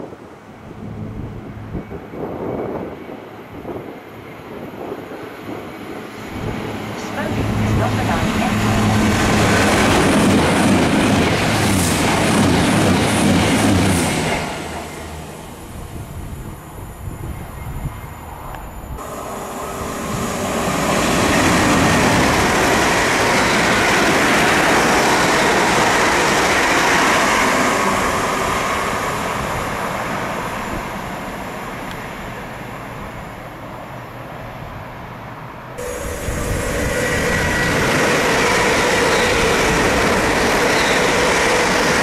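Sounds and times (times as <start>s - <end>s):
loud steady train noise: 0.0s - 42.0s
train wheels rushing on rails: 0.8s - 33.4s, 35.8s - 42.0s.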